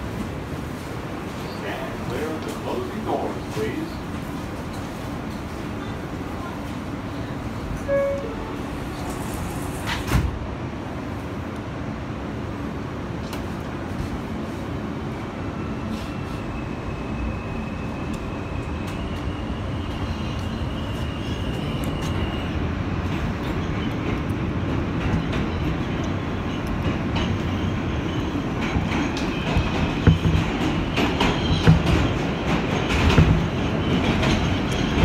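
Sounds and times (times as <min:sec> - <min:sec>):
train wheels rumbling: 0:00.0 - 0:35.0.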